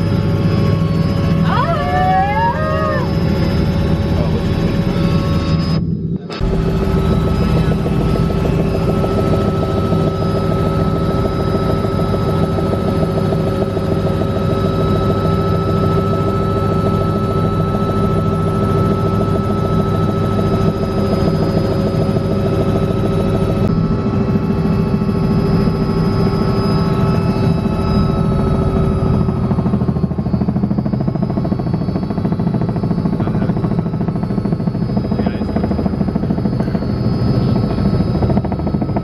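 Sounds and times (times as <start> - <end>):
helicopter cabin drone: 0.0 - 39.0
thin steady whine: 0.0 - 39.0.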